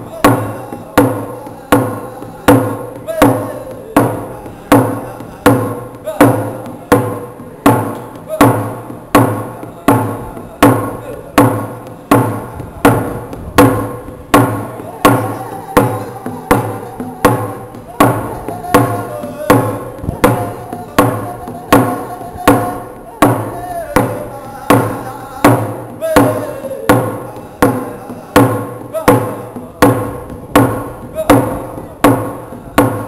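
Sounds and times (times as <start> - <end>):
hand drum beat: 0.0 - 33.0
man singing: 0.0 - 33.0.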